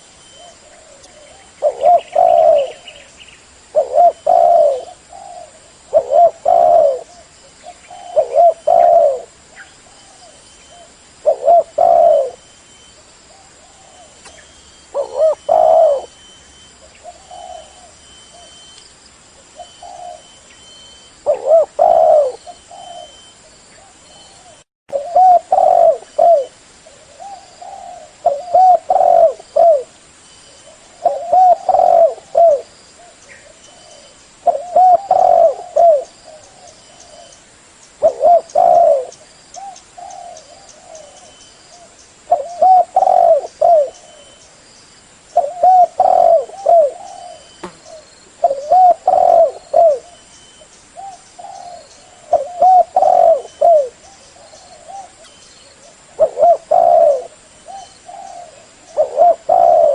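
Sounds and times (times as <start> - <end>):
dove cooing: 0.0 - 3.1, 3.7 - 12.5, 13.4 - 18.6, 19.5 - 20.4, 21.2 - 30.0, 30.6 - 37.4, 38.0 - 44.4, 45.4 - 50.3, 50.9 - 59.9.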